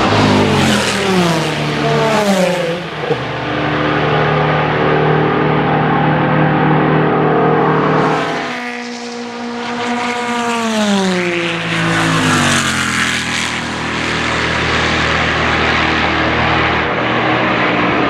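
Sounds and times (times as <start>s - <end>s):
race car engine at speed: 0.0s - 18.0s.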